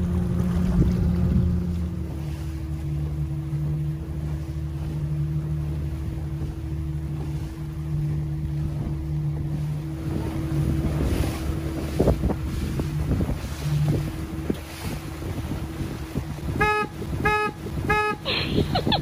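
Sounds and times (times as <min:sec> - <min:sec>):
wind on microphone: 0:00.0 - 0:02.9, 0:05.7 - 0:19.0
boat engine humming: 0:00.0 - 0:19.0
water noise around hull: 0:00.0 - 0:19.0.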